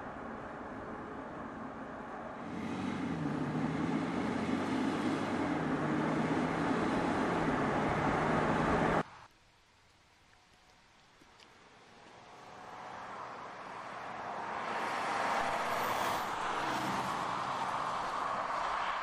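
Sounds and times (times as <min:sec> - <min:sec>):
car engine passing: 0:00.0 - 0:09.0, 0:12.3 - 0:19.0
tyre and road noise: 0:00.0 - 0:19.0.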